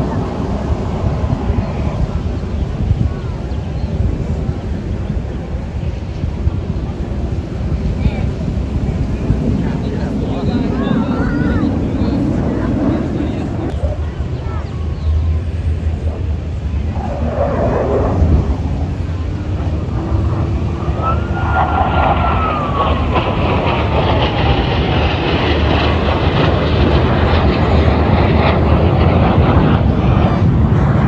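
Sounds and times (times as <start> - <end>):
jet aircraft passing: 0.0 - 31.0
low rumble: 0.0 - 31.0.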